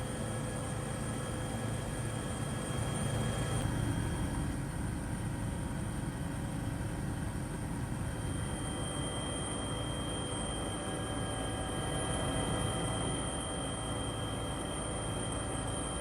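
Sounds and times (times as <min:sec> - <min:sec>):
drone motors and propellers: 0:00.0 - 0:16.0.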